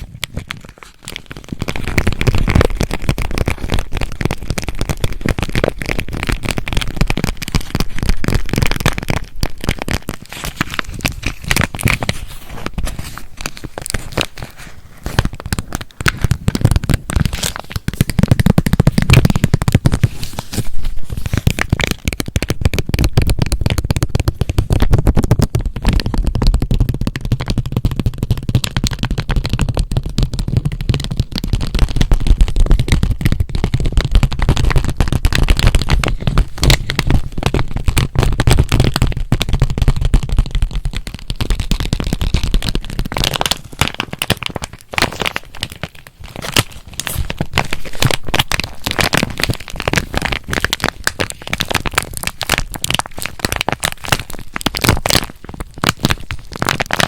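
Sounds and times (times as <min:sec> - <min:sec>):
fingers squeezing plastic package: 0:00.0 - 0:57.0.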